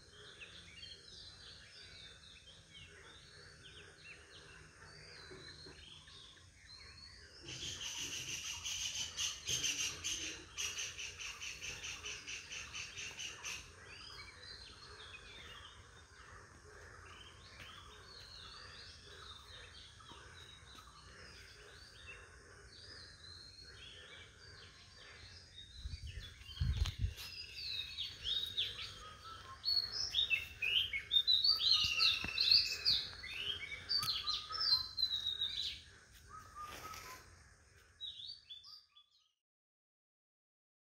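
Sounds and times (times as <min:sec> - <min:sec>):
birds chirping and calling: 0:00.0 - 0:39.2
faint outdoor background: 0:00.0 - 0:39.4.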